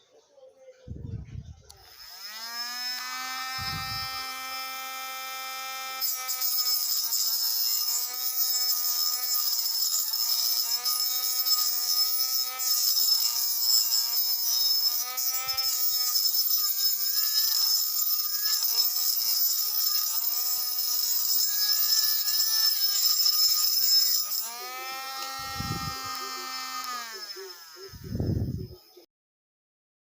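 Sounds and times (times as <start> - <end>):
small electric motor whining: 1.2 - 29.1
grinder rasping on workpiece: 1.7 - 29.0.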